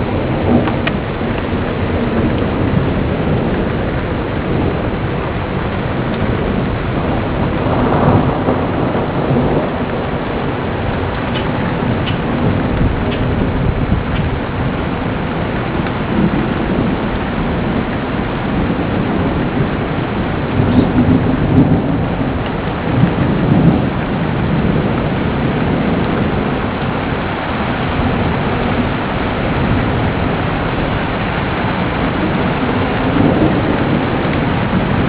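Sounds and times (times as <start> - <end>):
heavy rain: 0.0 - 35.0
low rolling thunder: 0.0 - 35.0.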